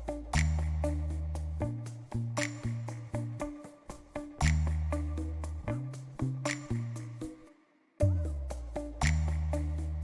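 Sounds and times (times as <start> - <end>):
instrumental music with ticking beat: 0.0 - 10.0.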